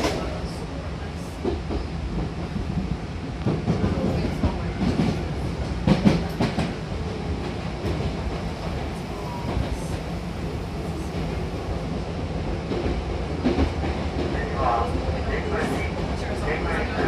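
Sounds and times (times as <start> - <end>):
train wheel rumble: 0.0 - 17.0
rail joint clacks: 1.4 - 11.8, 12.6 - 17.0.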